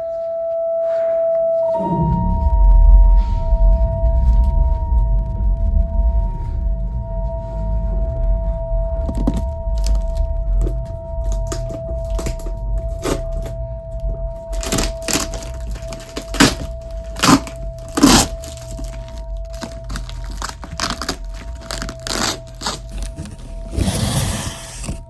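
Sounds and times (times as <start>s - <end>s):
held tone: 1.7s - 25.0s
steady low hum: 1.7s - 25.0s.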